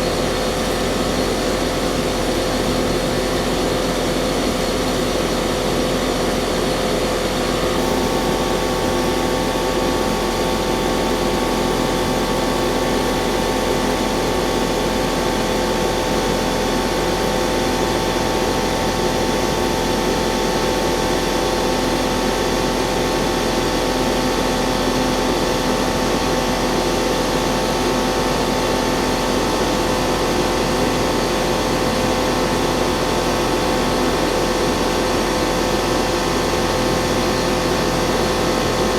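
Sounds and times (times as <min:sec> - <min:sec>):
heat pump mechanical hum: 0:00.0 - 0:38.9.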